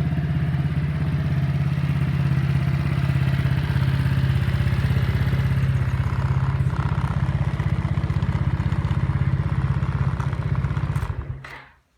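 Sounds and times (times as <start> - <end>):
scooter engine idling: 0.0 - 11.6.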